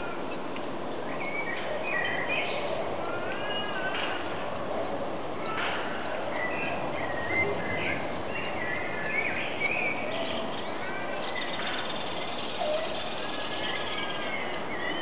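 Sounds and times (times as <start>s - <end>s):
birds calling and chirping: 0.0s - 4.6s, 5.4s - 15.0s
steady background noise: 0.0s - 15.0s.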